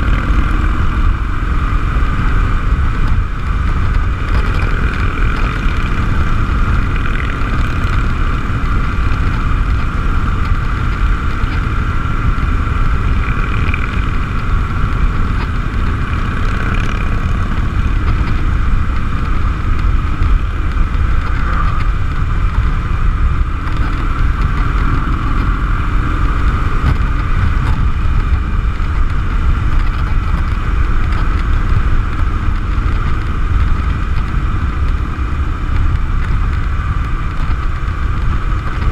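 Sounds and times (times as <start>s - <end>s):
motorcycle engine drone: 0.0s - 38.9s
wind rush over microphone: 0.0s - 38.9s.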